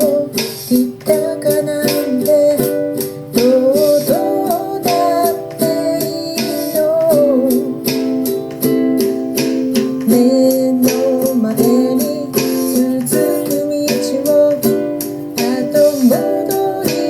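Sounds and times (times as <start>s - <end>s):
person singing: 0.0s - 17.0s
ukulele strumming chords: 0.0s - 17.0s.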